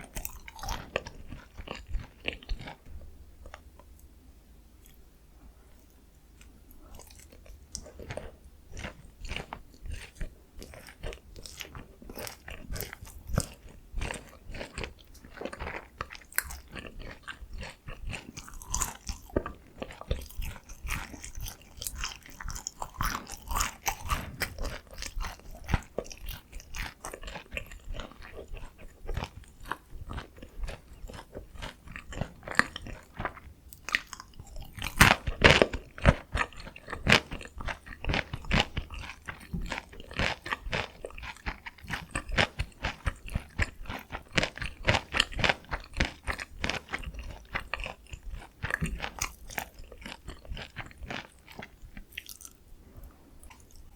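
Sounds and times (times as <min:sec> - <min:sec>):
crunching and chewing fried chicken: 0:00.0 - 0:04.1, 0:05.7 - 0:53.9.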